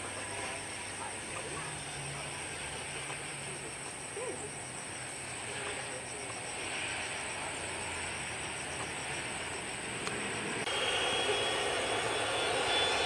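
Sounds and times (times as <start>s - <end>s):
turboprop engines humming: 0.0s - 13.0s.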